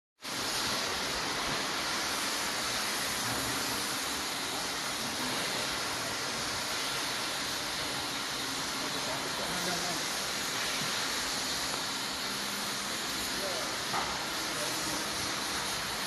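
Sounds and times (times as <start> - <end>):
industrial machinery hiss: 0.2 - 16.0.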